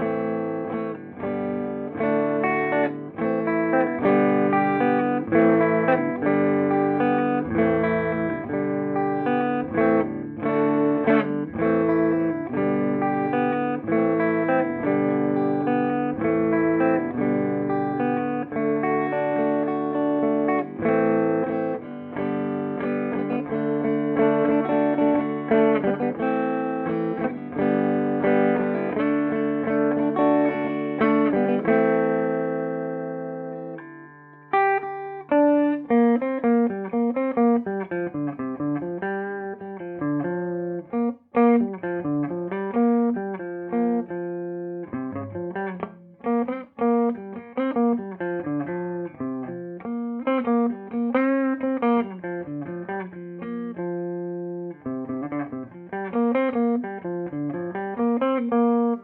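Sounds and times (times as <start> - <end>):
clean electric guitar: 0.0 - 59.0.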